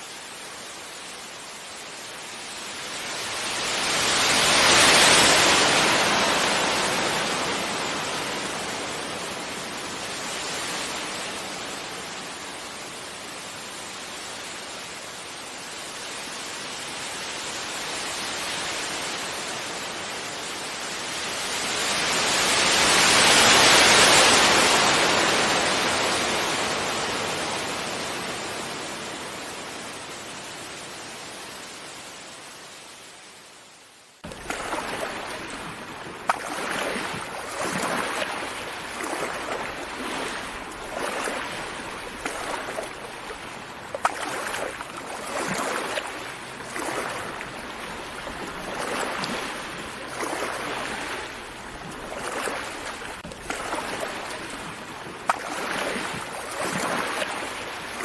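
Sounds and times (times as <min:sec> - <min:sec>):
ocean waves washing onto beach: 0:00.0 - 0:58.0.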